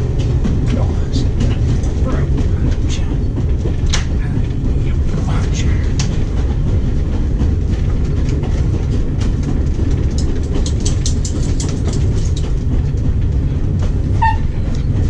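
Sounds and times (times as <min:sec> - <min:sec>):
light rattles and clicks: 0:00.0 - 0:15.0
train wheels rumbling on track: 0:00.0 - 0:15.0.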